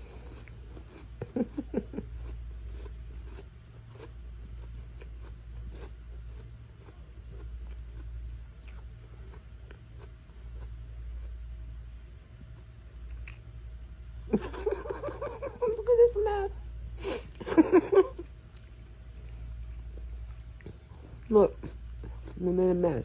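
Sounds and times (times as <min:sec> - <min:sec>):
cat crunching a cookie: 0:00.0 - 0:15.4, 0:17.3 - 0:23.0.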